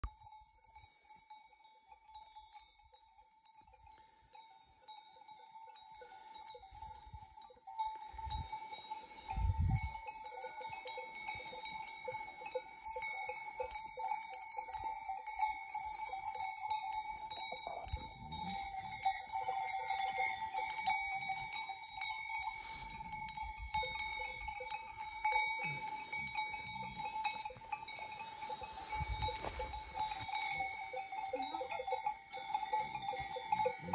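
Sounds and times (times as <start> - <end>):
sheep bells clinking: 0.0 - 33.9.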